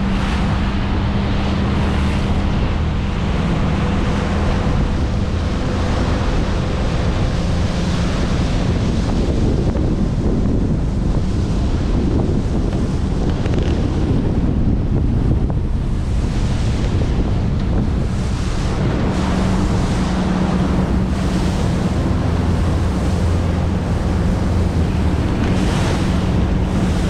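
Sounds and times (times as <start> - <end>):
low engine drone: 0.0 - 27.0
water noise: 0.0 - 27.0
wind buffeting microphone: 0.0 - 27.0.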